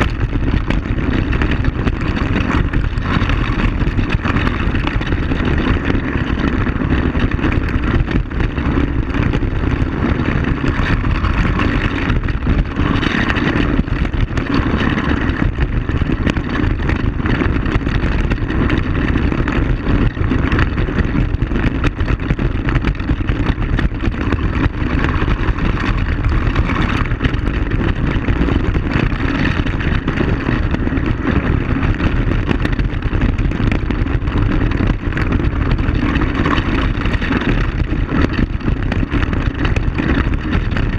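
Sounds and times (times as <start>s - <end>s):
knocking from rough ride: 0.0s - 40.9s
quad bike engine running: 0.0s - 40.9s.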